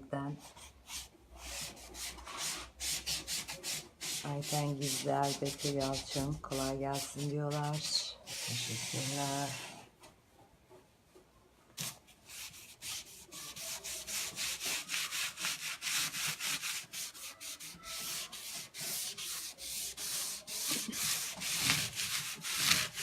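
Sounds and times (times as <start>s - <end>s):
rubbing on painted wood: 0.3s - 10.1s, 11.8s - 23.0s.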